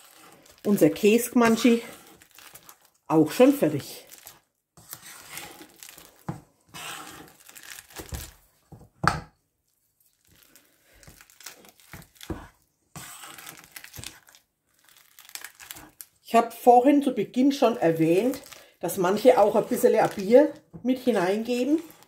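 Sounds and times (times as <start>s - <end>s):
masher squelching and scraping: 0.0s - 8.7s, 10.1s - 16.0s, 17.9s - 22.0s.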